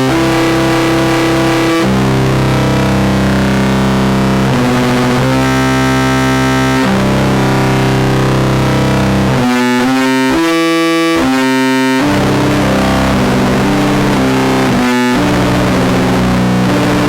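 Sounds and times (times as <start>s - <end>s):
electronic music droning chords: 0.0s - 17.0s.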